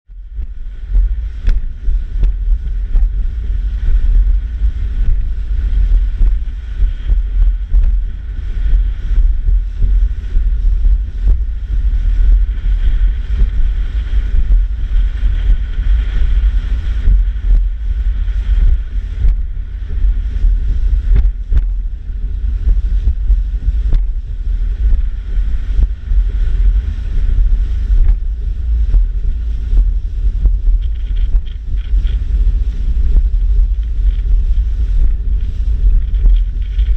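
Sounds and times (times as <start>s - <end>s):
gusty wind buffeting microphone: 0.0s - 36.9s
faint boat motor hum: 0.1s - 36.9s.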